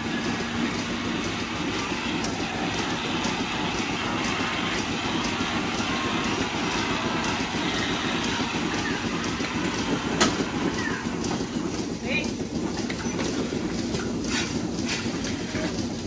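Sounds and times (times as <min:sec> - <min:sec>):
milking machinery running: 0:00.0 - 0:16.0.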